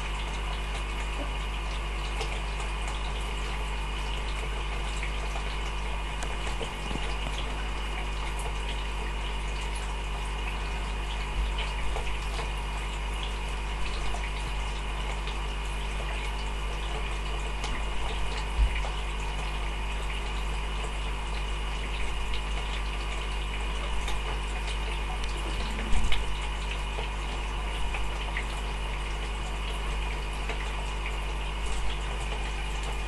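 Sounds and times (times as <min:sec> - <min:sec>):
aquarium pump humming: 0:00.0 - 0:33.0
water trickling: 0:00.0 - 0:33.0.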